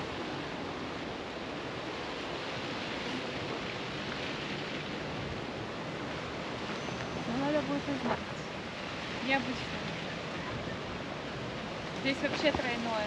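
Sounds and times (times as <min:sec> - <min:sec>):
steady wind: 0:00.0 - 0:13.0.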